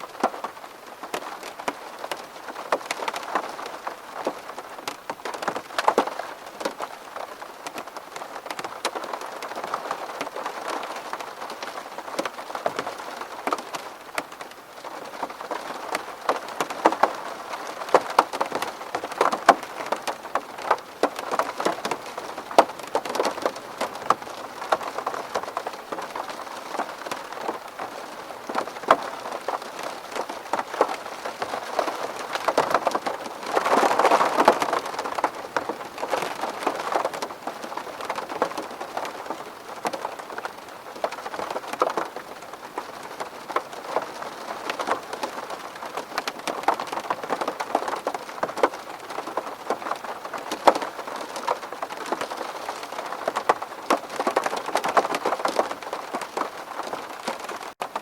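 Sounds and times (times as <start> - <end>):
rain hiss: 0.0 - 58.0
raindrops ticking on glass: 0.1 - 58.0.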